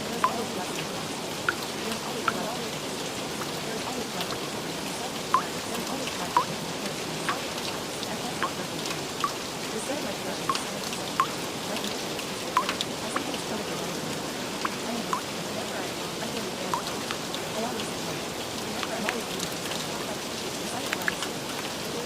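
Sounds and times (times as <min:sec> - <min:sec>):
rain hiss: 0:00.0 - 0:22.0
raindrops plinking: 0:00.0 - 0:22.0.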